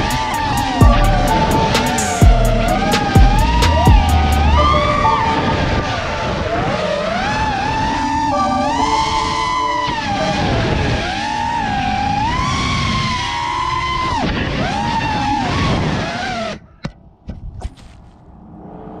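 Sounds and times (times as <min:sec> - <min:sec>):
drone motors whining: 0:00.0 - 0:16.8.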